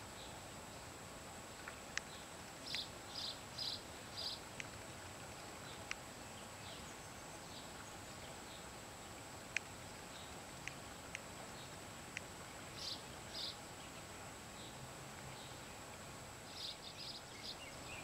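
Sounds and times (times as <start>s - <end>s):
steady hiss: 0.0s - 18.0s
birds chirping: 1.5s - 18.0s.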